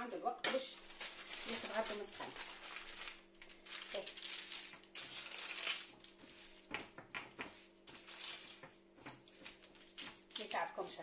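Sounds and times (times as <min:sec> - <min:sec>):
baking paper rustling: 0:00.7 - 0:11.0.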